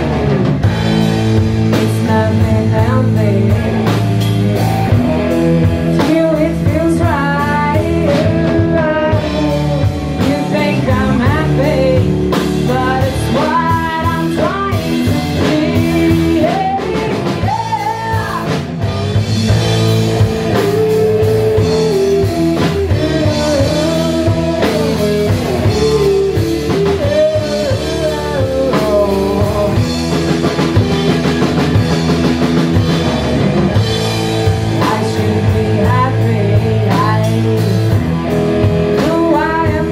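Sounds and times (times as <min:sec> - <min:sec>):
bass guitar: 0:00.0 - 0:39.9
distorted electric guitar: 0:00.0 - 0:39.9
drum kit: 0:00.0 - 0:39.9
person singing lead vocals: 0:01.3 - 0:18.8, 0:19.4 - 0:31.7, 0:34.3 - 0:39.9.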